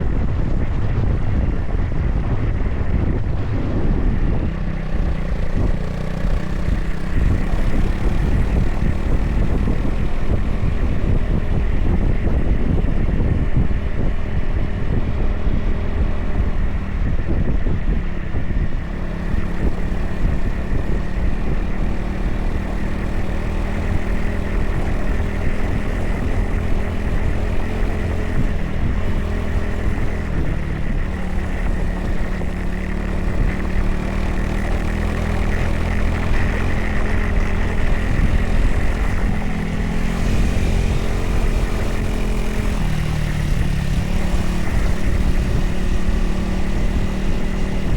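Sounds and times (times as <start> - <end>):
motorcycle engine running at speed: 0.0 - 47.9.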